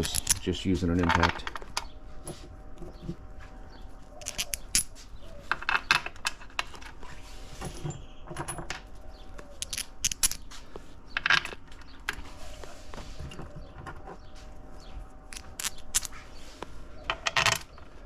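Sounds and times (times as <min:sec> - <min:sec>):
tools and bolts clinking on metal: 0:00.0 - 0:03.2, 0:04.1 - 0:14.4, 0:15.3 - 0:16.2, 0:17.0 - 0:18.0.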